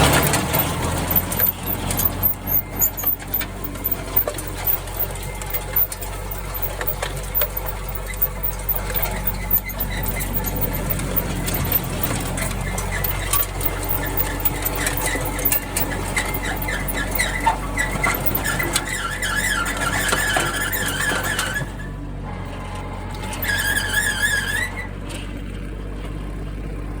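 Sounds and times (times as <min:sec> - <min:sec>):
high-pitched squeal: 0:00.0 - 0:25.0
rotary tiller engine hum: 0:00.0 - 0:27.0.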